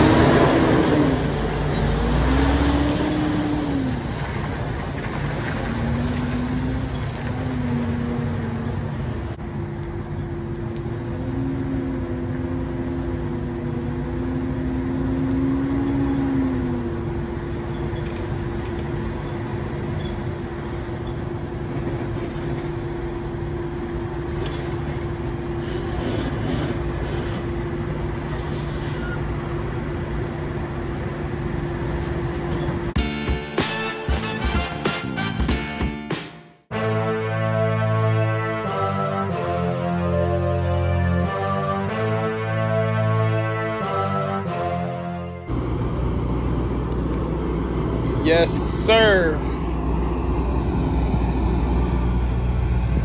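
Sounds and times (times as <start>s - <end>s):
diesel truck engine shifting gears: 0.0s - 53.0s.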